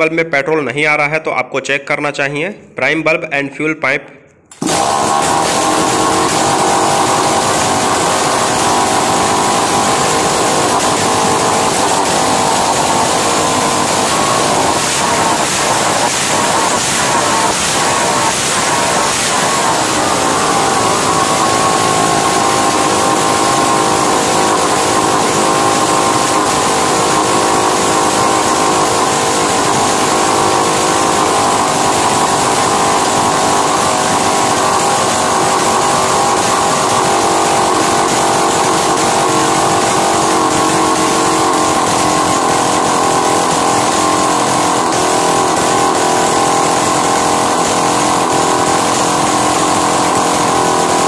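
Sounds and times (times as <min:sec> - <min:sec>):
chainsaw engine fast idle: 0:04.5 - 0:51.0.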